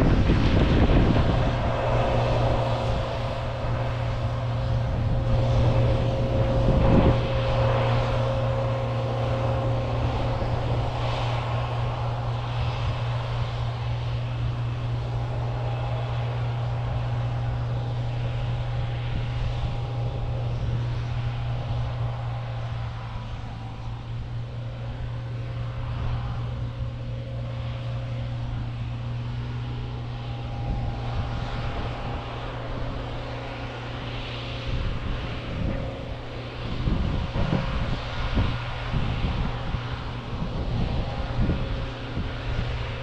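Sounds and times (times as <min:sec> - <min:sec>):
combine harvester engine drone: 0:00.0 - 0:43.0
thin steady whine: 0:00.0 - 0:43.0.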